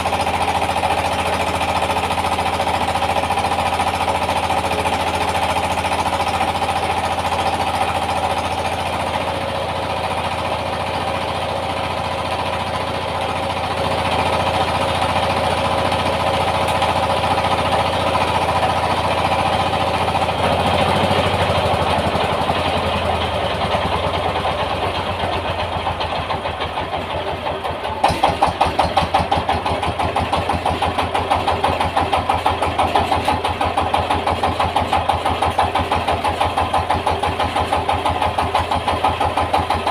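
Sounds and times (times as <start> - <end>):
diesel engine chugging: 0.0 - 39.9
rice milling machine running: 0.0 - 39.9.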